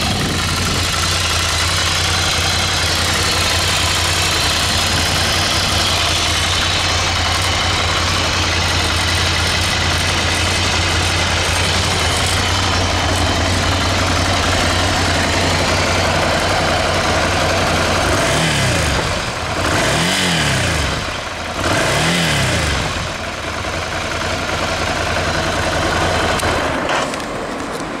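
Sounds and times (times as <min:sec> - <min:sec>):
motorcycle engine revving: 0:00.0 - 0:27.3
motorcycle engine idling: 0:00.0 - 0:28.0.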